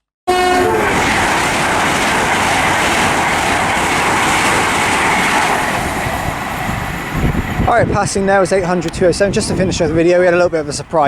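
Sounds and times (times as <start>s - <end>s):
train passing at speed: 0.3s - 11.0s
rail clatter: 0.5s - 11.0s.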